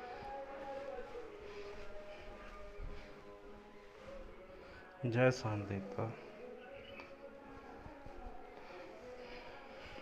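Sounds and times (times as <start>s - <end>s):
faint music with held notes: 0.0s - 10.0s.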